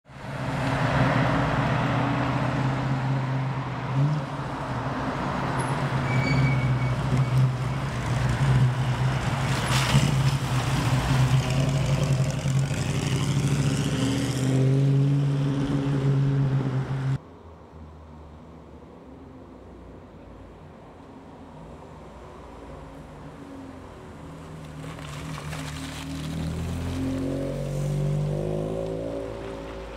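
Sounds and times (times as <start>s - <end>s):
road noise: 0.0s - 29.9s.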